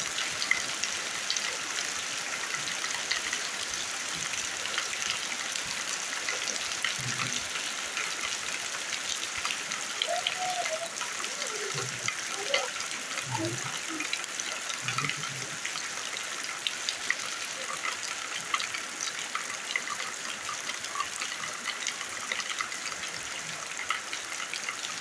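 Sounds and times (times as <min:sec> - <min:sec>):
rain hissing: 0:00.0 - 0:25.0
raindrops ticking: 0:00.0 - 0:25.0.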